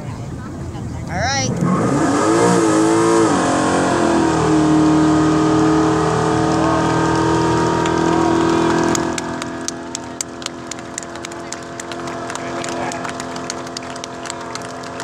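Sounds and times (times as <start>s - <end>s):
car engine at high revs: 1.1s - 15.0s.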